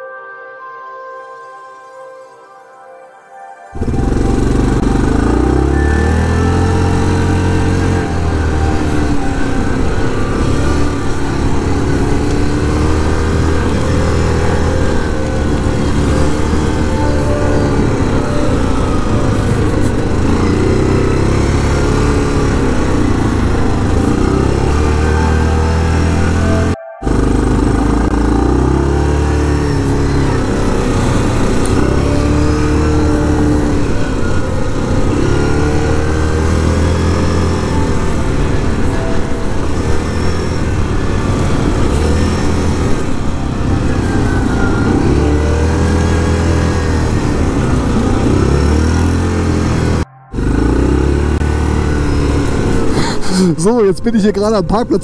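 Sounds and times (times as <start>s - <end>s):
riding noise: 3.7s - 55.0s
quad engine running: 3.8s - 54.9s.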